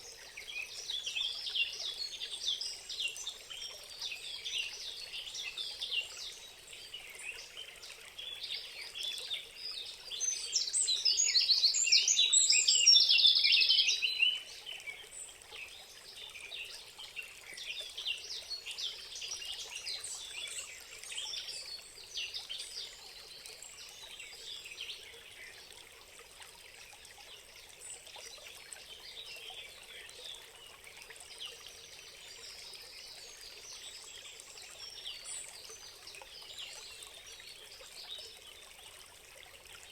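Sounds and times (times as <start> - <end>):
faint trickling water: 0.0 - 39.9.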